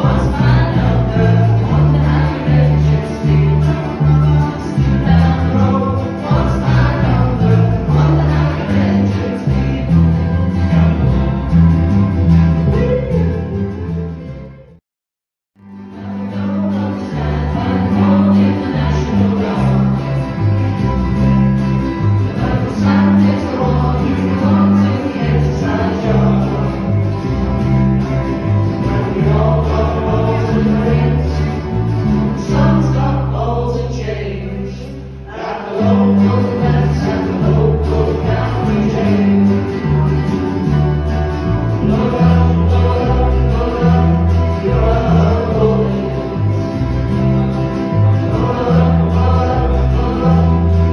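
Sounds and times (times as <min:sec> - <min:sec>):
low bass line: 0:00.0 - 0:14.8, 0:15.6 - 0:50.9
mandolin: 0:00.0 - 0:14.8, 0:15.6 - 0:50.9
strummed acoustic guitars: 0:00.0 - 0:14.8, 0:15.6 - 0:50.9.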